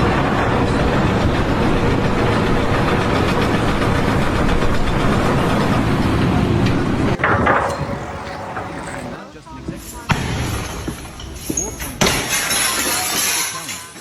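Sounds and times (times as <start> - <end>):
machine rumble and clatter: 0.0 - 13.5.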